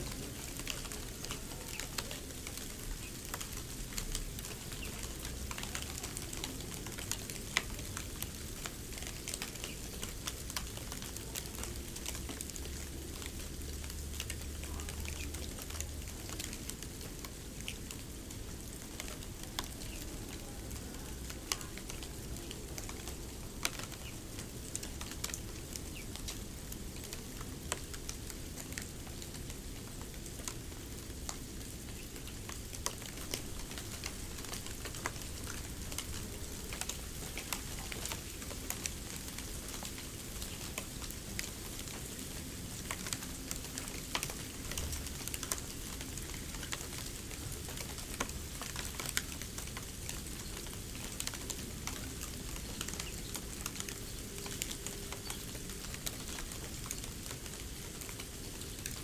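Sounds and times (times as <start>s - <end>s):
light crackles and ticks: 0.0s - 59.0s.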